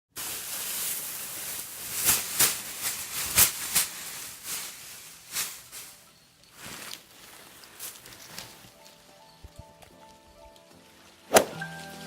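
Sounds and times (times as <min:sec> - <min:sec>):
rustling and crackling: 0:00.1 - 0:12.0
steady hiss: 0:00.1 - 0:12.0.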